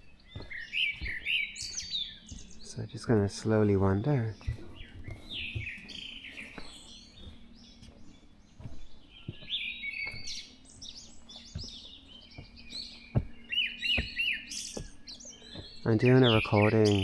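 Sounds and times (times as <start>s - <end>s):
footsteps on forest floor: 0.0s - 17.0s
songbirds chirping and trilling: 0.0s - 17.0s.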